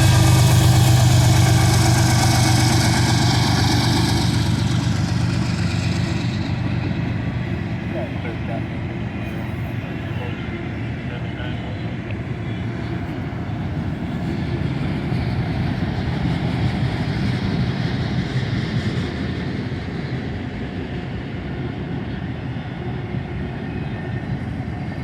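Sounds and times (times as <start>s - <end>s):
freight train wheels on rail: 0.0s - 25.0s.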